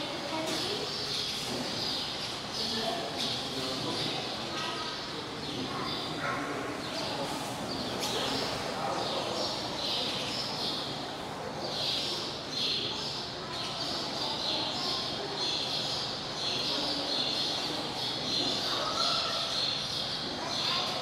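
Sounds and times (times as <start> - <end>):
birds chirping: 0.0 - 21.0
murmur of voices: 0.0 - 21.0.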